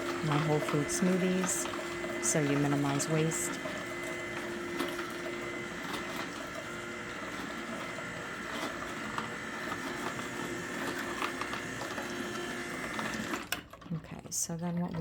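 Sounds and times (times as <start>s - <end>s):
juicer motor whine: 0.0s - 15.0s.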